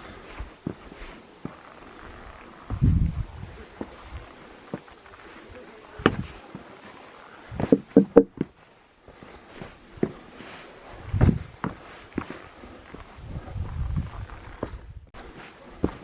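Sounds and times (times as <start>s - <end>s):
footsteps on a trail: 0.0s - 16.0s.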